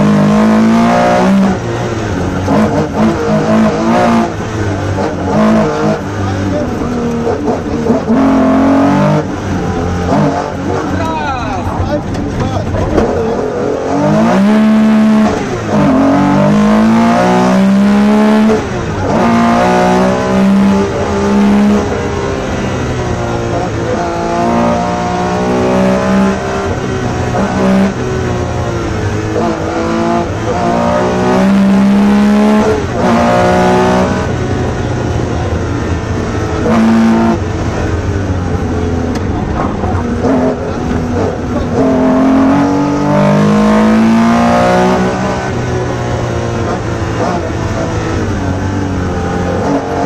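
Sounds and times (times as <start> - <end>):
car engine revving through gears: 0.0 - 50.0.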